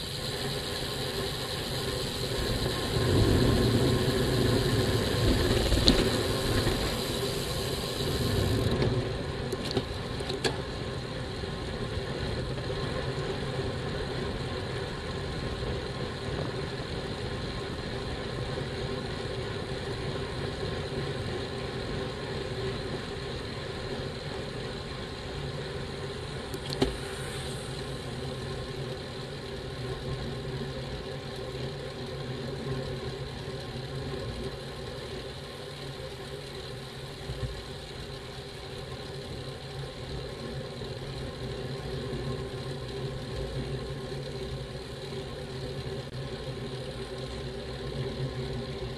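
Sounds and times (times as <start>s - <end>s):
bicycle riding noise: 0.0s - 48.9s.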